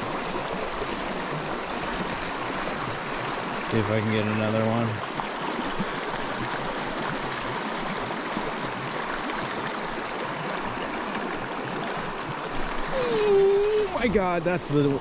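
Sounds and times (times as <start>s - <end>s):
creek babbling over rocks: 0.0s - 15.0s.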